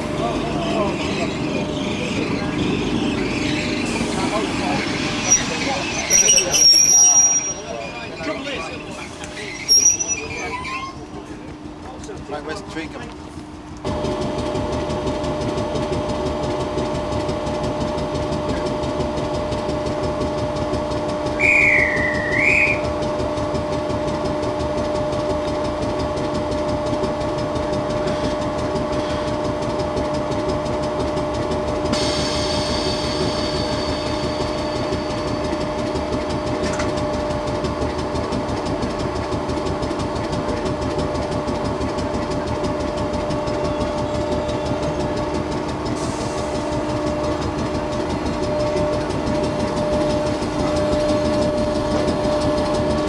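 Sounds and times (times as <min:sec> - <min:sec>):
train hum: 0:00.0 - 0:53.0
train running rumble: 0:00.0 - 0:53.0.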